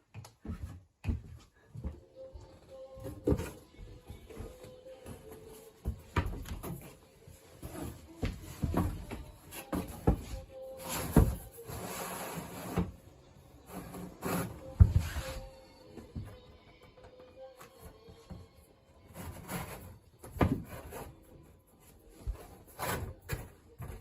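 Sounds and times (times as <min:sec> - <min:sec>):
background music: 0:01.6 - 0:24.0.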